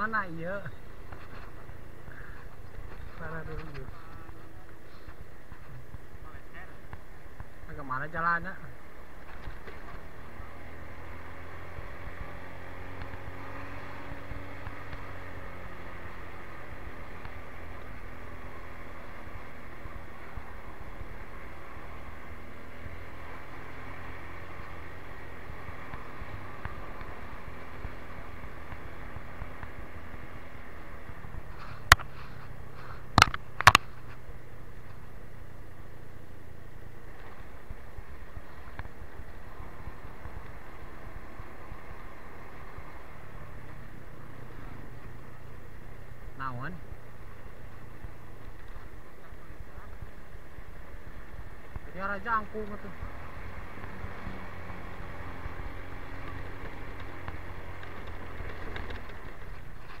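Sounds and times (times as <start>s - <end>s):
motorcycle engine and road noise: 0.0s - 60.0s.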